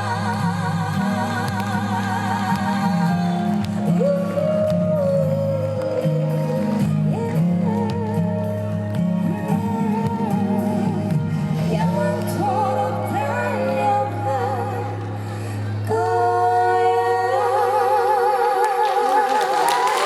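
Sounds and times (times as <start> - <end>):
person singing: 0.0 - 19.9.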